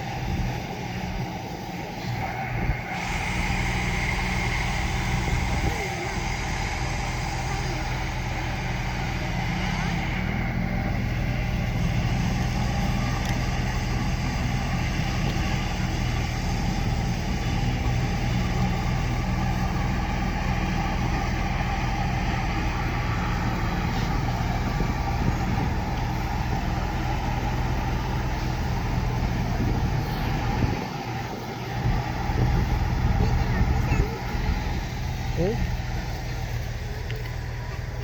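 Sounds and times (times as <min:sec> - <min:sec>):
heavy machinery engine humming: 0:00.0 - 0:38.0.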